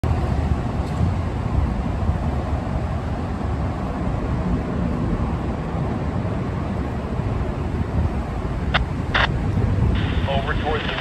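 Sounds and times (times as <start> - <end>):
low rumble of road traffic: 0.0 - 11.0
wind on microphone: 0.0 - 11.0.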